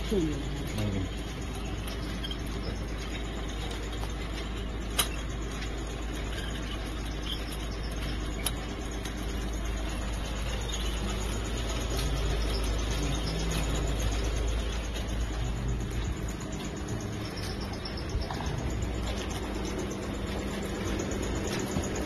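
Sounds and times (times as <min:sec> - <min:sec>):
oven conveyor mechanical noise: 0:00.0 - 0:22.0.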